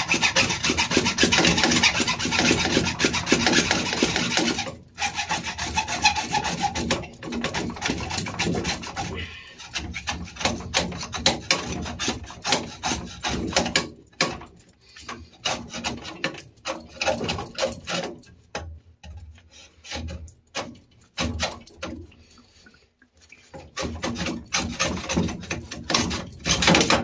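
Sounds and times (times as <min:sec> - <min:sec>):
hacksaw cutting metal pipe: 0:00.0 - 0:22.2, 0:23.6 - 0:27.0.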